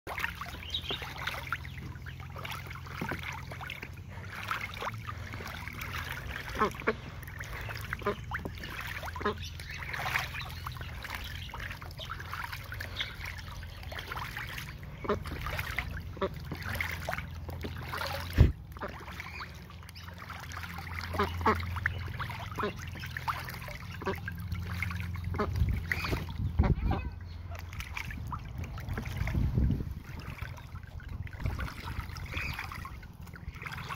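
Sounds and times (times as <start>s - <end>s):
ducks quacking: 0.1s - 29.4s, 30.1s - 33.9s
ducks splashing: 0.1s - 33.9s
water sloshing: 0.1s - 33.9s.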